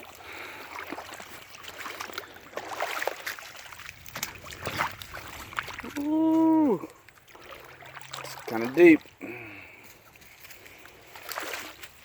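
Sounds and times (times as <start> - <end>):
crackles and splashes of brush: 0.0 - 12.0
water trickling: 0.0 - 12.0.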